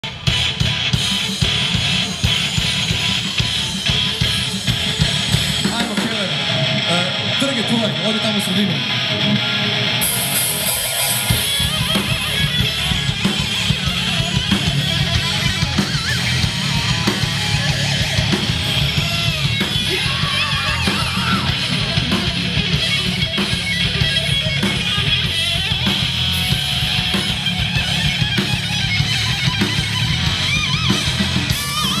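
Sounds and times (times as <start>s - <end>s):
electric guitar solo: 0.0s - 32.0s
pounding drum kit: 0.0s - 32.0s.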